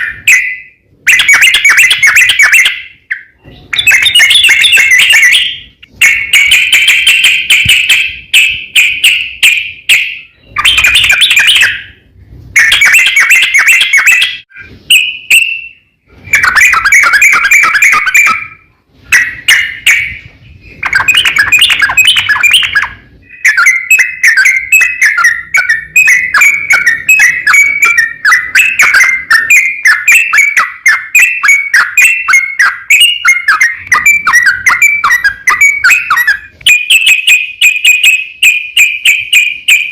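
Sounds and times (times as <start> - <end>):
bulbul rapid warbling song: 0.0 - 39.9.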